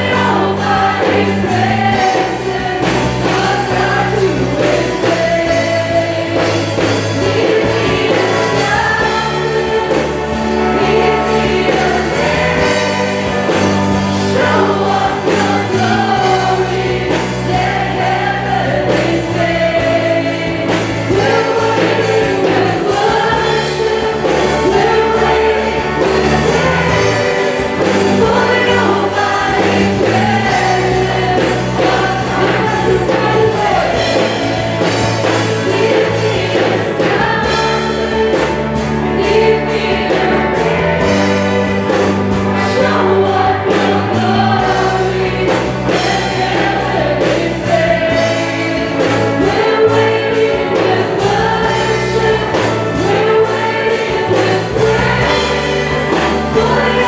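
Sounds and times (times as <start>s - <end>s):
amplified band with electric guitar: 0.0s - 57.0s
women singing gospel song: 0.0s - 57.0s.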